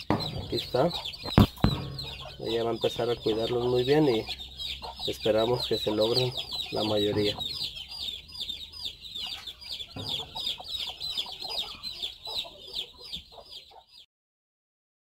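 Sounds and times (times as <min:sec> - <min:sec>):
hen clucking softly: 0:00.0 - 0:14.0
chicks peeping: 0:00.0 - 0:14.1.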